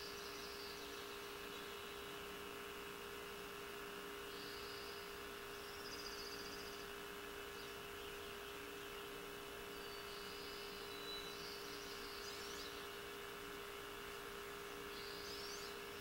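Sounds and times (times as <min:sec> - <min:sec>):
distant birds trilling: 0:00.0 - 0:16.0.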